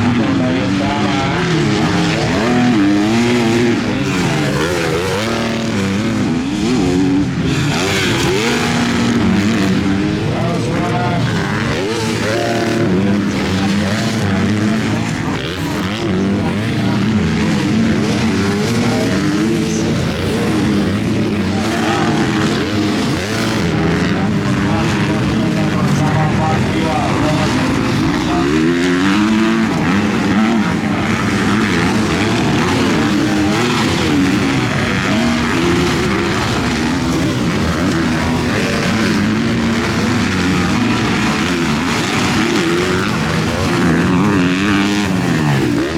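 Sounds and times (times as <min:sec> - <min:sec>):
motocross bikes revving: 0:00.0 - 0:45.9.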